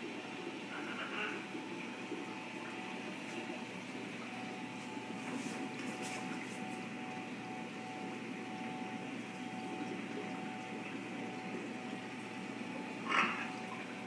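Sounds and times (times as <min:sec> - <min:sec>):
aquarium pump humming: 0:00.0 - 0:14.0.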